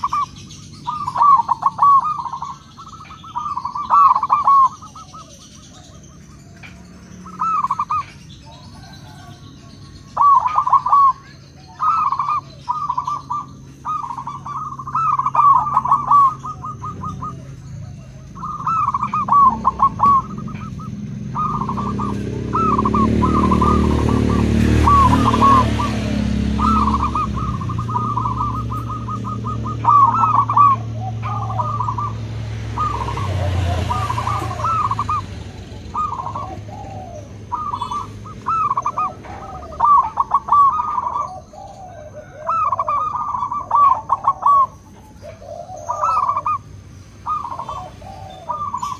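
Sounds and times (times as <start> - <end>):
doves cooing: 0.0 - 48.9.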